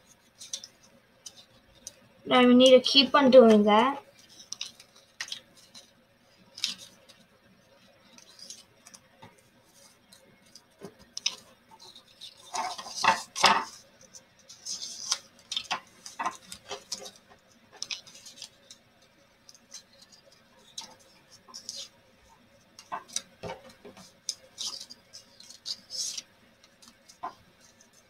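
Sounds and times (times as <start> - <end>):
paper rustling and crinkling: 0.0 - 2.0, 3.4 - 28.0.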